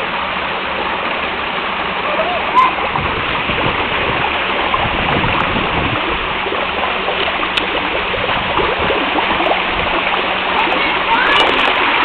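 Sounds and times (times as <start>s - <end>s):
water spraying and splashing: 0.0s - 12.0s.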